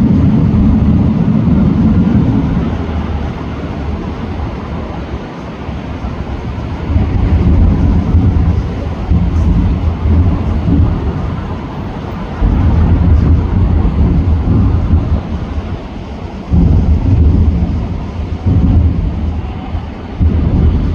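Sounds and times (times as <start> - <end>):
fireworks booming: 0.0 - 5.0, 5.7 - 20.9.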